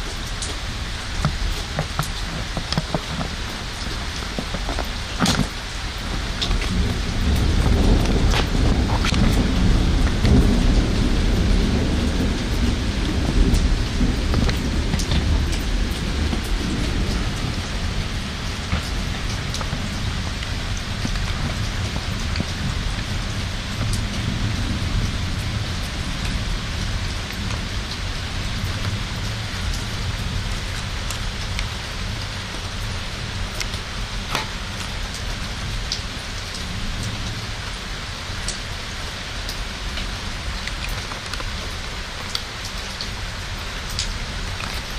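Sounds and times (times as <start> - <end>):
low thunder rumble: 0.0 - 37.7
raindrops ticking on surface: 0.0 - 44.9
steady rain: 0.0 - 44.9.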